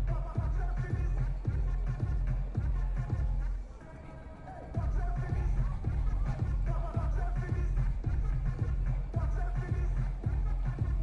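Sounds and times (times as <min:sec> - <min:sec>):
thumping kick drum: 0:00.0 - 0:03.5, 0:04.8 - 0:11.0
heavy bass line: 0:00.0 - 0:03.9, 0:04.7 - 0:11.0
electronic dance music: 0:00.0 - 0:11.0.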